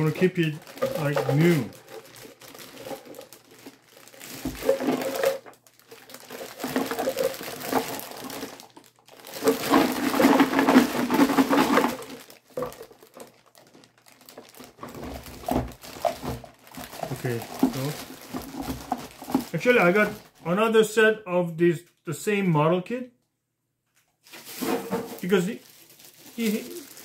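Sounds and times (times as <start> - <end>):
plastic bag crinkling: 0.0 - 20.5, 24.2 - 27.0.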